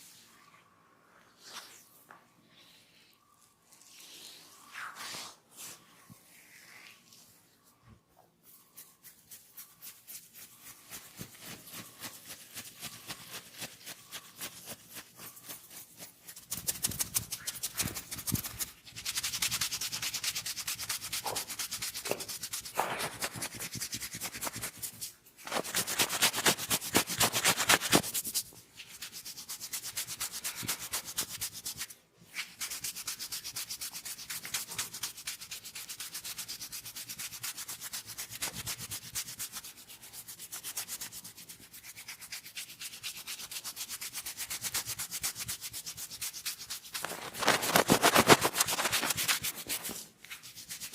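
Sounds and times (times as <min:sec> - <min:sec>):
hands rubbing in massage: 0:01.3 - 0:02.2, 0:03.8 - 0:07.8, 0:08.4 - 0:50.9.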